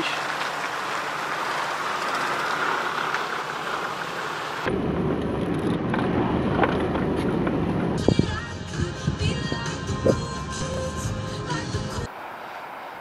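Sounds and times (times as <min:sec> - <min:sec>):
vehicle rumbling over sandy track: 0:00.0 - 0:11.0.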